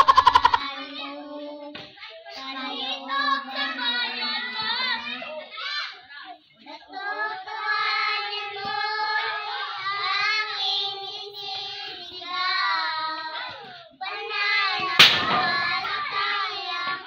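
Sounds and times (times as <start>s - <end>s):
girls singing unaccompanied: 0.0s - 17.0s.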